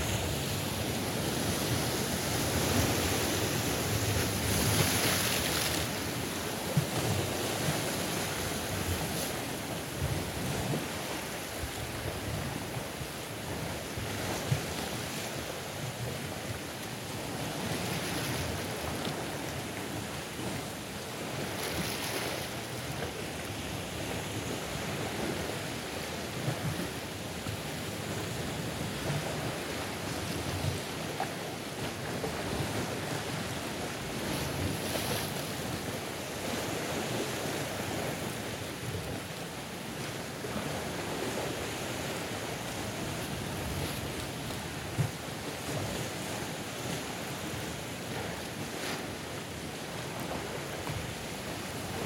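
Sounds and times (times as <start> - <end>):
sea waves breaking on rocky shore: 0.0 - 52.0.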